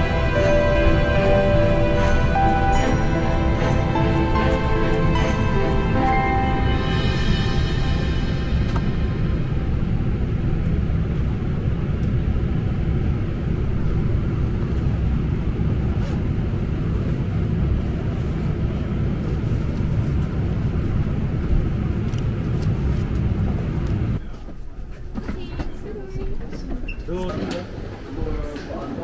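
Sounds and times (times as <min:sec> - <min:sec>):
jet engines idling: 0:00.0 - 0:29.0.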